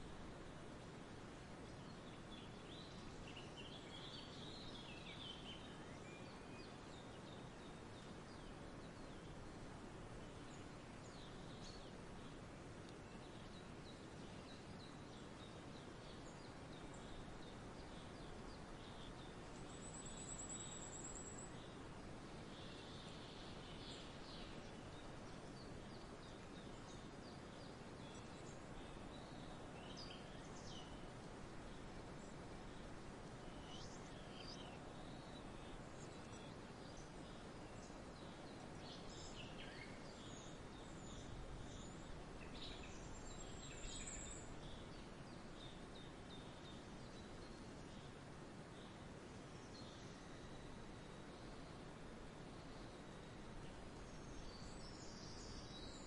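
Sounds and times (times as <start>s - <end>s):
steady low hiss: 0.0s - 56.0s.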